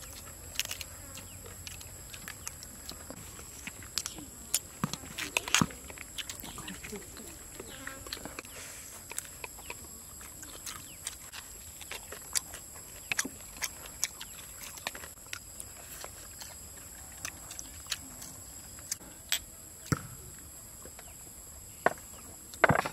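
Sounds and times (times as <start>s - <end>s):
chewing clicks: 0.0s - 19.0s.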